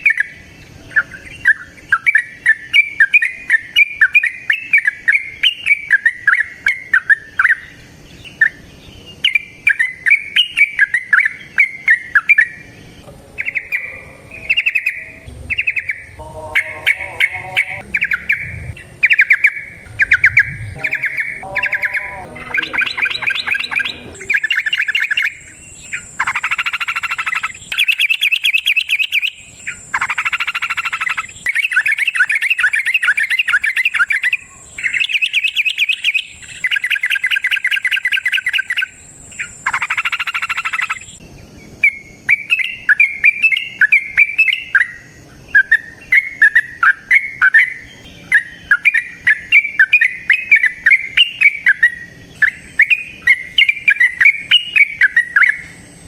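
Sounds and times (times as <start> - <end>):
bulbul rattling song: 0.0 - 41.2, 41.8 - 56.0.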